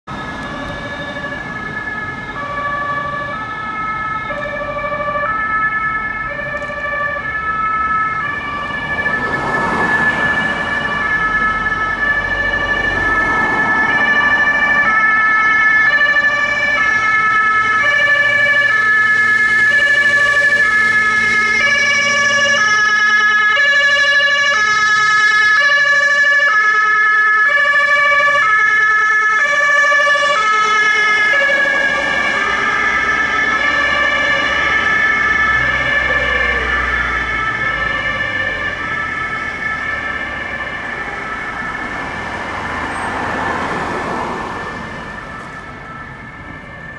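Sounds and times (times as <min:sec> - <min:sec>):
passing traffic rushing: 0:00.0 - 0:46.9
two-tone ambulance siren: 0:00.0 - 0:46.9.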